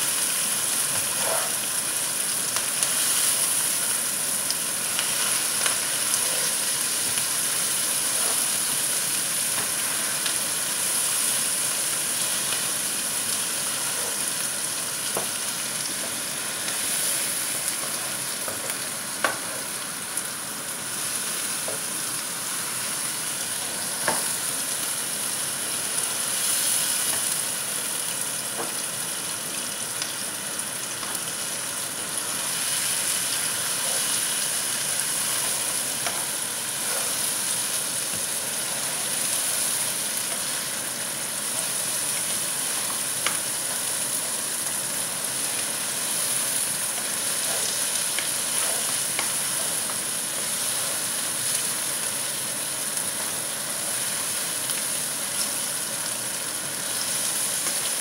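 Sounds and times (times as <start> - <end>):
onions sizzling in a frying pan: 0.0 - 58.0.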